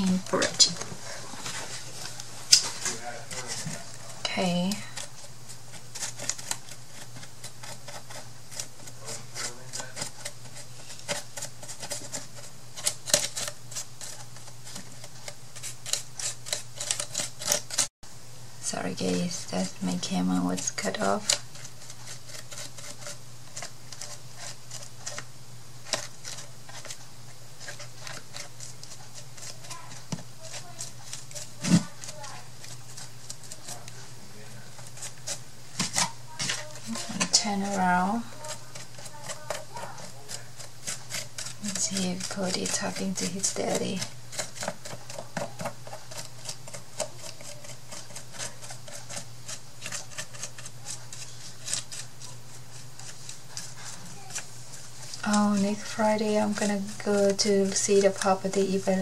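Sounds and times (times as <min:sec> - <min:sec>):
craft materials clicking and scratching: 0:00.0 - 0:17.9, 0:19.4 - 0:59.0
steady low hum: 0:00.0 - 0:59.0.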